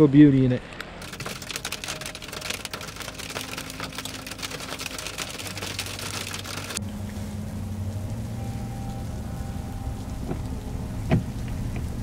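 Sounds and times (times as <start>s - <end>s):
heavy rain falling: 1.0s - 12.0s.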